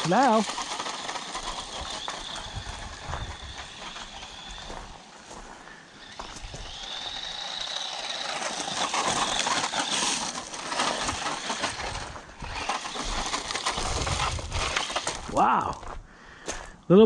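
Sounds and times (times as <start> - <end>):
toy truck electric motor whining: 0.0 - 15.8.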